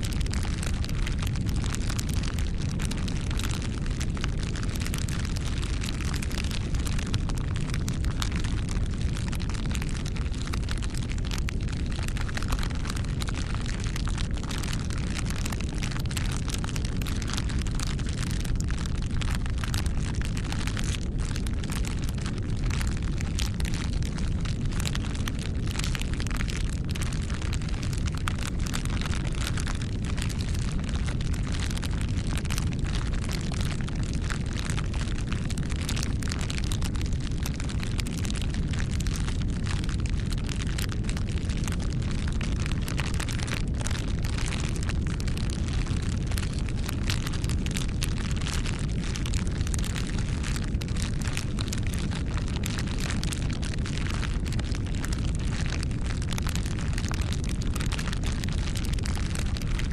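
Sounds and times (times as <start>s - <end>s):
wood fire crackling: 0.0s - 59.8s.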